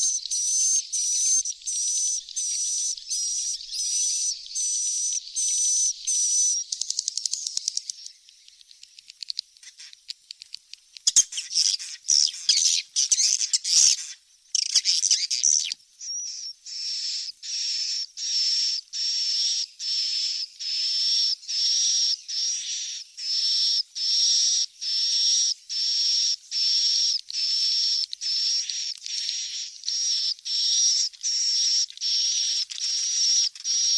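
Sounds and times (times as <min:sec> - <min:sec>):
high twittering bird chirps: 0:00.0 - 0:33.9.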